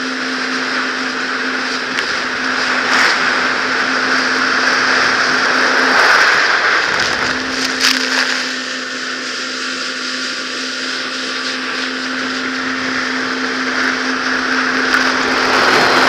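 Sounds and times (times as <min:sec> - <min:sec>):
jet ski engine hum: 0:00.0 - 0:16.0
wind: 0:00.0 - 0:16.0.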